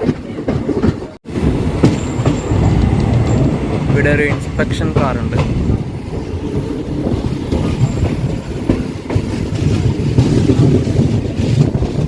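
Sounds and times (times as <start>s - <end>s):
train coach rumble and wheel clatter: 0.0s - 12.0s.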